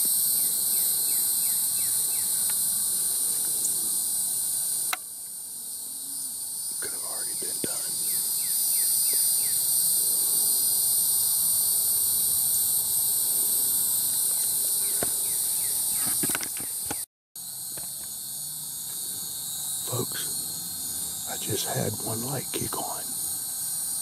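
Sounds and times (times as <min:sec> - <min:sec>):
night insects chorus: 0:00.0 - 0:24.0.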